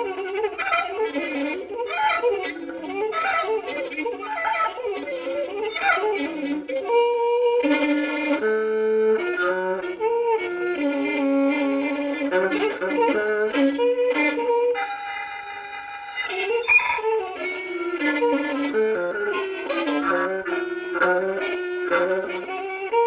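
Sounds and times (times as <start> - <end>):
prepared violin short notes: 0.0 - 23.0.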